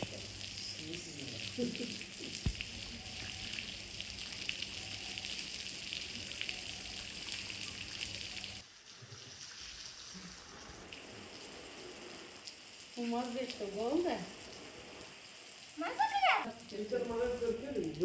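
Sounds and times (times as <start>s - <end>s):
meat sizzling in hot fat: 0.0s - 17.8s.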